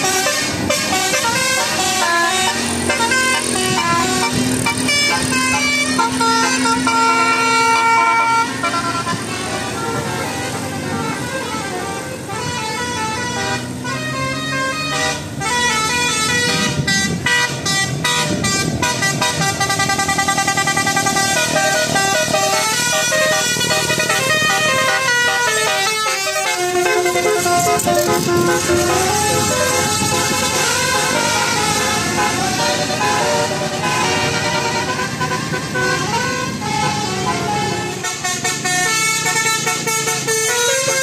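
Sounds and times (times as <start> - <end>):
multi-tone air horn melody: 0.0 - 41.0.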